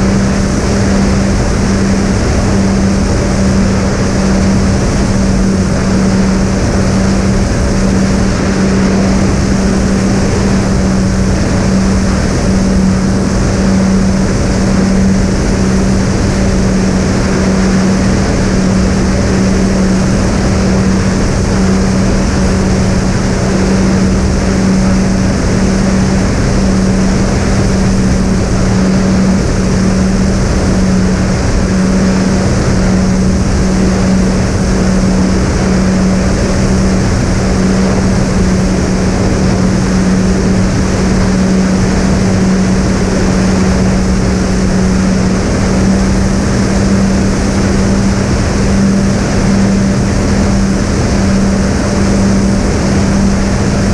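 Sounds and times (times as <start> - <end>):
electric motors droning: 0.0 - 53.9
rushing air noise: 0.0 - 53.9.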